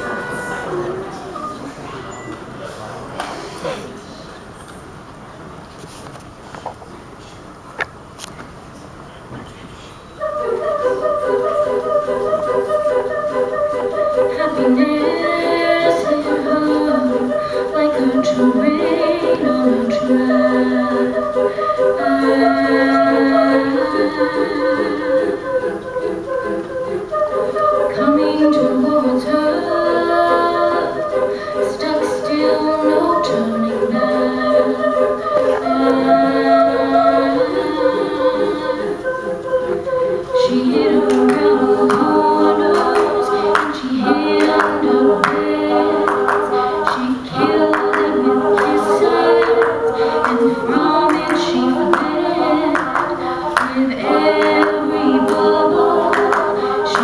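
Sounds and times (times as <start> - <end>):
women singing backing harmonies: 0.0 - 4.1, 10.0 - 57.0
female soloist singing: 10.2 - 57.0.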